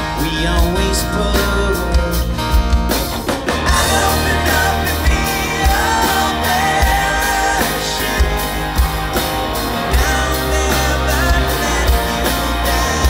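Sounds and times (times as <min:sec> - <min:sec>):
person singing: 0:00.0 - 0:02.4, 0:03.6 - 0:13.0
drum kit beat: 0:00.0 - 0:13.0
electric guitars: 0:00.0 - 0:13.0.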